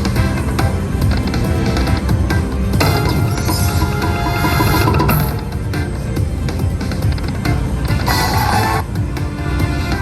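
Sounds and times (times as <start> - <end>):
loud electronic music: 0.0 - 9.8.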